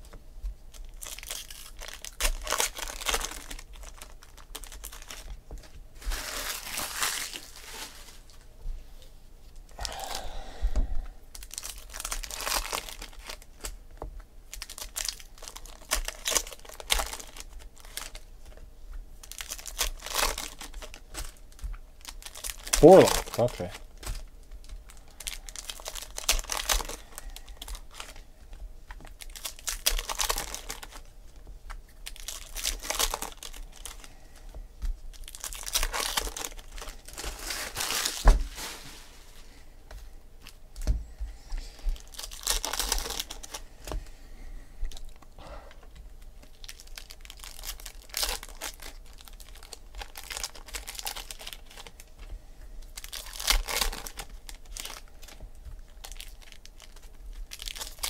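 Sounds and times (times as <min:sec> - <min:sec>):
foil wrappers tearing and crinkling: 0:00.7 - 0:08.4, 0:11.3 - 0:18.6, 0:19.2 - 0:28.2, 0:28.9 - 0:34.4, 0:35.0 - 0:39.3, 0:41.8 - 0:43.6, 0:44.9 - 0:45.3, 0:46.1 - 0:52.1, 0:52.8 - 0:58.0.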